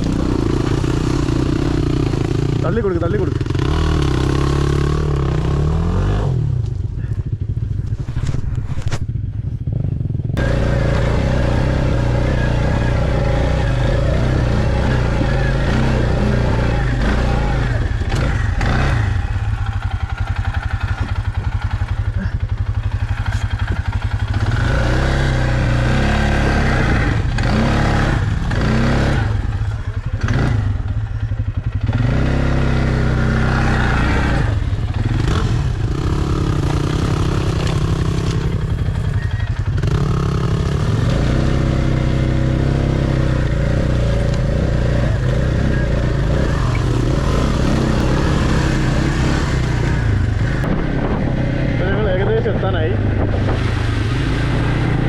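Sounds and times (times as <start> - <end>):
off-road vehicle engine revving: 0.0 - 7.1, 10.3 - 55.0.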